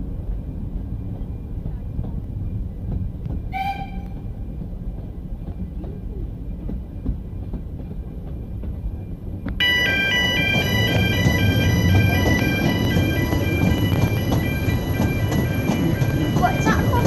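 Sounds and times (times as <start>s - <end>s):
train coach rumbling on track: 0.0s - 17.0s
wheels clicking over rail joints: 0.6s - 17.0s.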